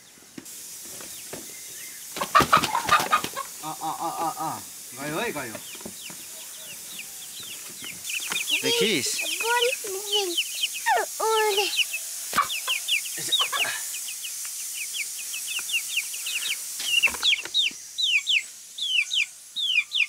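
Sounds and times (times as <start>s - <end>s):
chicks peeping: 0.8s - 20.0s.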